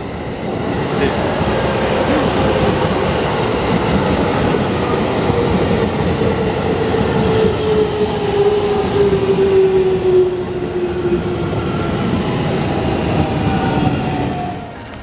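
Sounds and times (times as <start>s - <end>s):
electric train whine: 0.0s - 15.0s
train wheels rumbling on rails: 0.0s - 15.0s.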